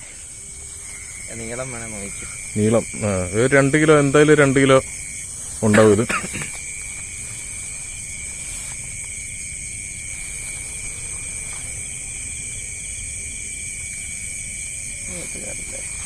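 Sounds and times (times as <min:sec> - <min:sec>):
faint low outdoor rumble: 0:00.0 - 0:16.0
insects chirring: 0:00.0 - 0:16.0.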